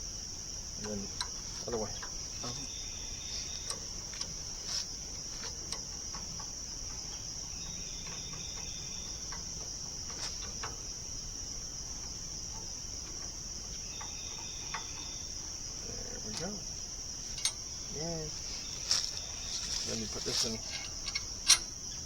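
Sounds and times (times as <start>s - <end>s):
insect chorus drone: 0.0s - 22.0s
light clicks and knocks: 0.8s - 22.0s.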